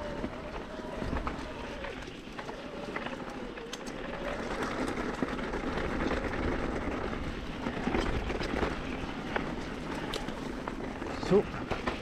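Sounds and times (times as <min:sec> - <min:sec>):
bike tyres rolling on dirt trail: 0:00.0 - 0:12.0
rattles and clicks from bumps: 0:00.0 - 0:12.0.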